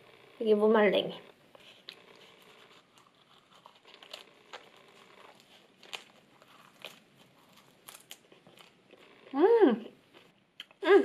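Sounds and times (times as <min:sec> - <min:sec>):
chewing and crunching: 0:01.5 - 0:10.8.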